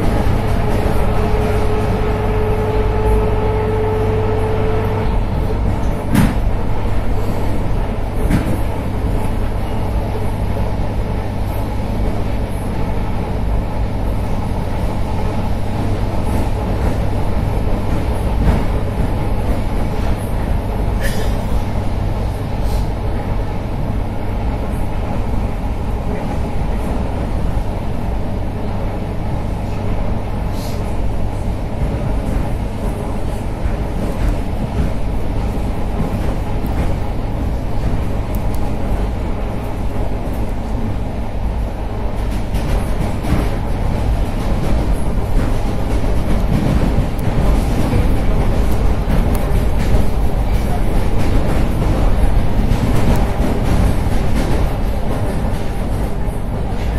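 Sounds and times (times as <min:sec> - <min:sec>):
train rumbling along track: 0:00.0 - 0:56.9.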